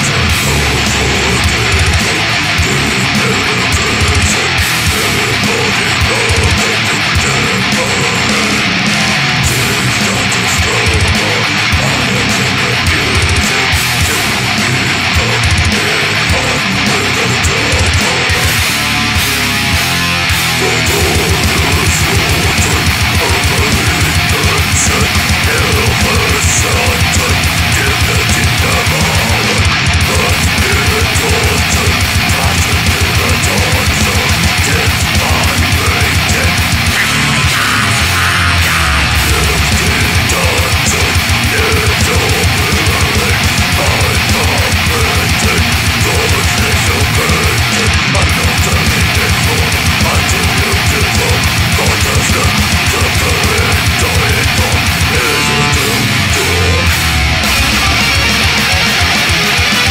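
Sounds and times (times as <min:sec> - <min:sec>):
distorted electric guitars: 0:00.0 - 0:59.9
fast dense drumming: 0:00.0 - 0:59.9.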